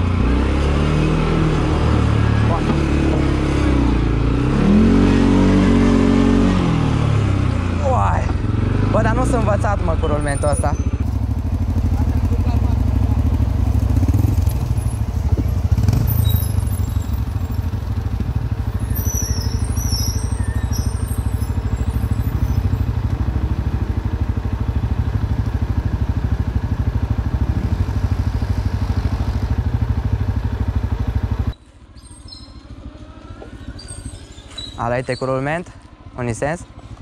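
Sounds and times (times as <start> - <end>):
atv engine running: 0.0 - 34.8.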